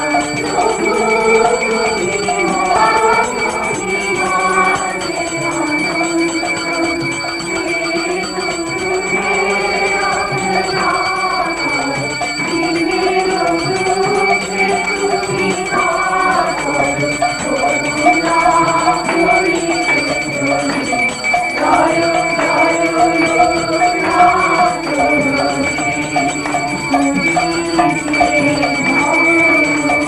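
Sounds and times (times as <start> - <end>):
jingling hand percussion: 0.0 - 30.0
slow wavering melody: 0.0 - 30.0.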